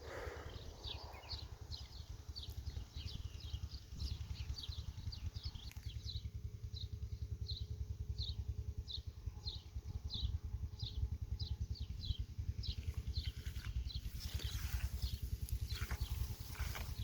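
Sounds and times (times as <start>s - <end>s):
low uneven rumble: 0.0s - 17.0s
small bird chirping: 0.0s - 17.0s.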